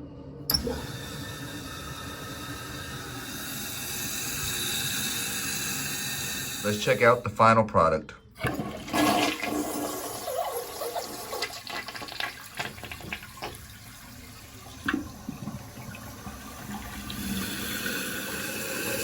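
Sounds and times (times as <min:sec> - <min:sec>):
toilet flushing: 0:00.5 - 0:07.2, 0:08.4 - 0:19.0.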